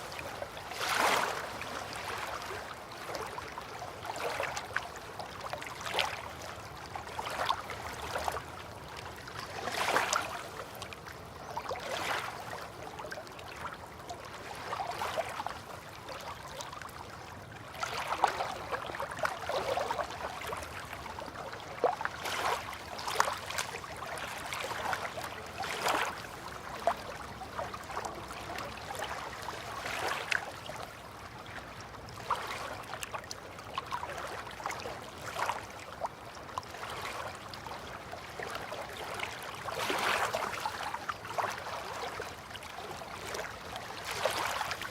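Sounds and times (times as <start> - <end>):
river water lapping and splashing: 0.0 - 44.9.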